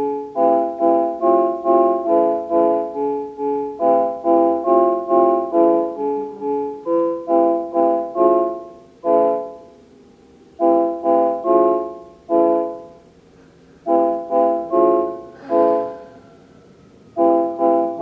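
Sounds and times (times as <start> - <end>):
keyboard playing chords: 0.0 - 18.0.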